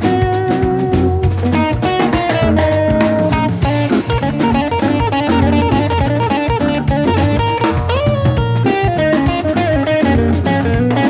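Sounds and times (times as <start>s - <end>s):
drum kit: 0.0s - 11.0s
electric guitar solo: 0.0s - 11.0s
organ: 0.0s - 11.0s.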